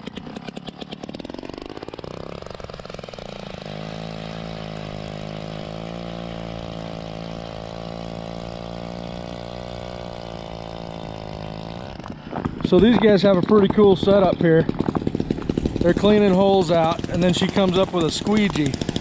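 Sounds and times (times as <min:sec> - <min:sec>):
power ice auger drilling: 0:00.0 - 0:19.0.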